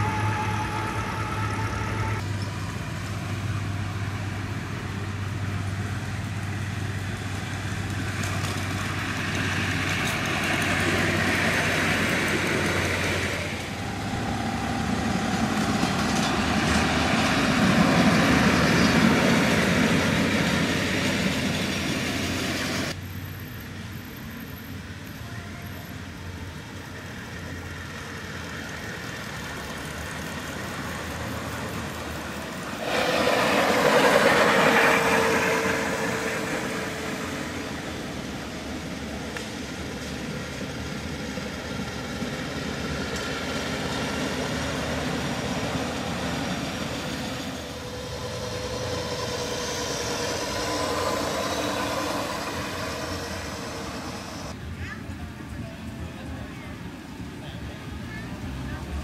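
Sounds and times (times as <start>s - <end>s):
train running: 0.0s - 59.0s.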